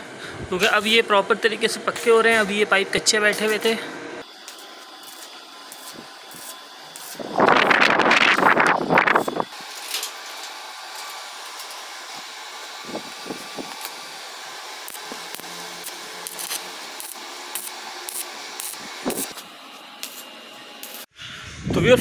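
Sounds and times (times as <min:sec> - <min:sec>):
welding arc hissing and crackling: 0:00.0 - 0:21.1.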